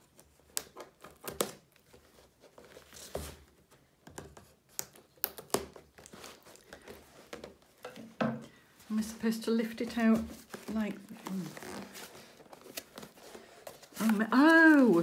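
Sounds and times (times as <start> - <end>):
cardboard and tape crinkling: 0.0 - 8.2, 8.8 - 15.0.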